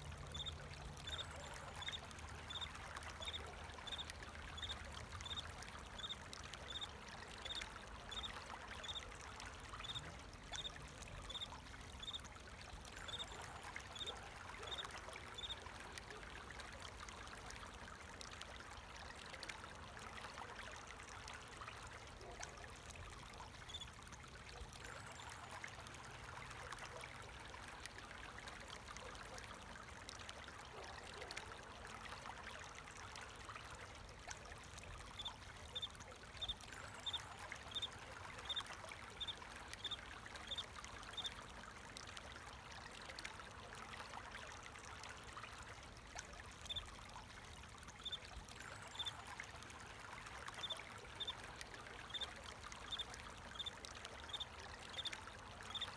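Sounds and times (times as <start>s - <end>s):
stream water trickling: 0.0s - 55.9s.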